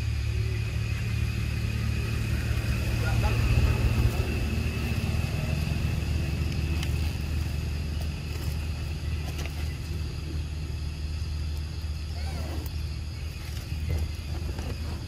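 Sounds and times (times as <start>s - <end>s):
high steady whine: 0.0s - 15.0s
motor rumbling: 0.0s - 15.0s.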